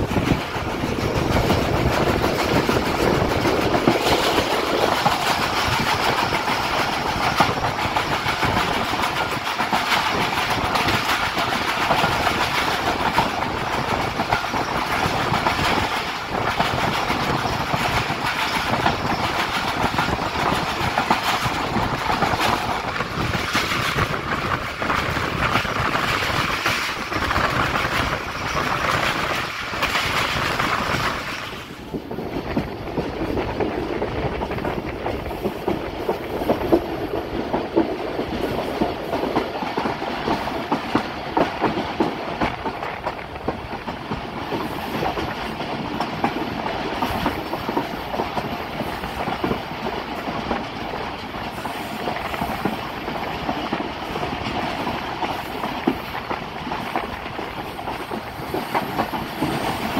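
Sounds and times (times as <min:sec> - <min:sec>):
clickety-clack of rail joints: 0:00.0 - 0:59.9
train wheels rumbling on rails: 0:00.0 - 0:59.9.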